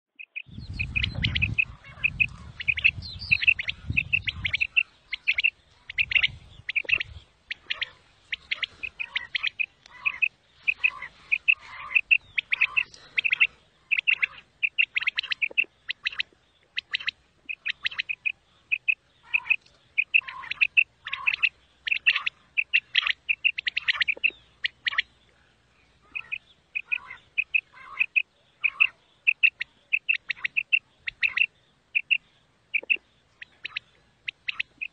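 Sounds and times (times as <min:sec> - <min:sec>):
quail calling: 0:00.2 - 0:34.9.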